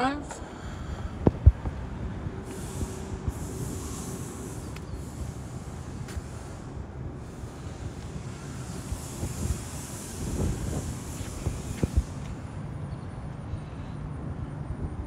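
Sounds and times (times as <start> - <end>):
wind on microphone: 0.6 - 12.7.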